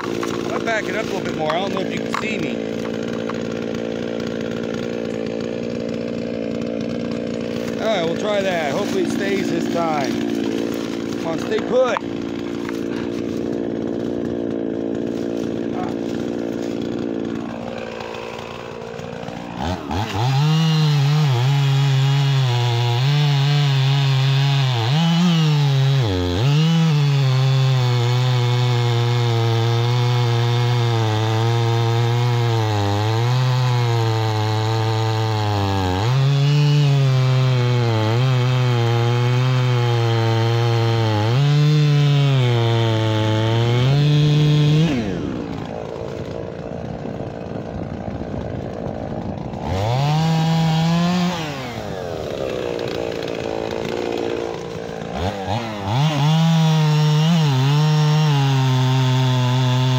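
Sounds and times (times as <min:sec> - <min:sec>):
chainsaw cutting through log: 0:00.0 - 0:59.9
chainsaw engine: 0:00.0 - 0:59.9.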